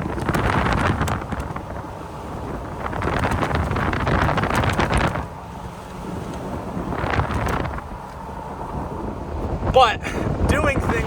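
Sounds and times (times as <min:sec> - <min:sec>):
engine and tyres rumbling: 0:00.0 - 0:11.0
wind rushing over microphone: 0:00.0 - 0:11.0.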